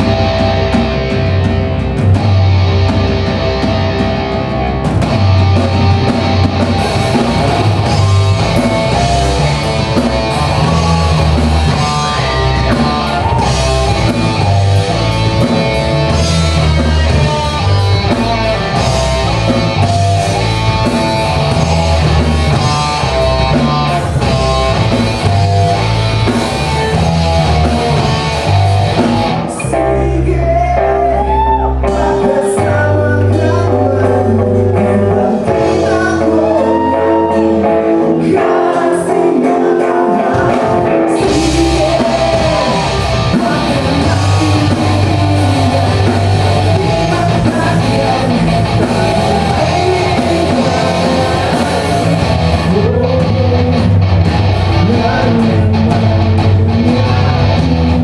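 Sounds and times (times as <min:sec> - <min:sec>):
drums and cymbals: 0:00.0 - 0:29.6, 0:40.3 - 0:58.0
bass guitar: 0:00.0 - 0:58.0
electric guitars: 0:00.0 - 0:58.0
person singing: 0:07.0 - 0:25.9, 0:26.7 - 0:58.0.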